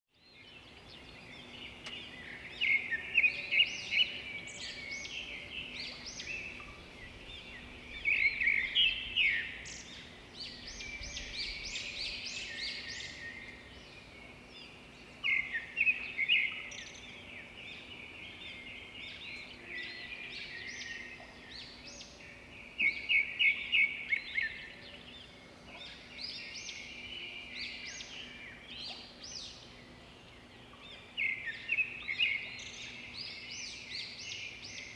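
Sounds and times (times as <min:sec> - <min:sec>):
birds singing: 0:00.1 - 0:34.9.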